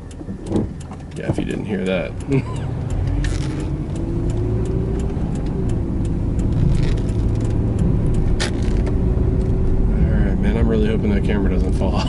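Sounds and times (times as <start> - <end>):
sharp clicks: 0.0 - 9.8
car engine and road noise: 0.0 - 12.0.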